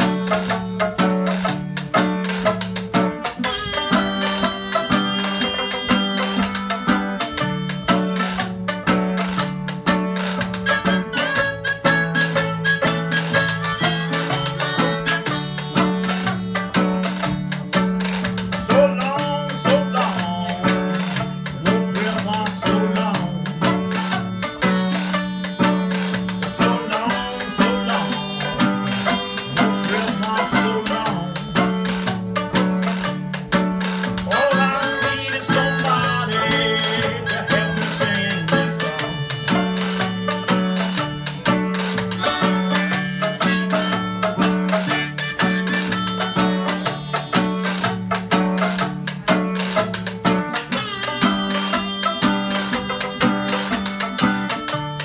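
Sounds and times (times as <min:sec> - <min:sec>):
banjo picking: 0:00.0 - 0:55.0
guitar picking: 0:00.0 - 0:55.0
stepping bass line: 0:00.0 - 0:55.0.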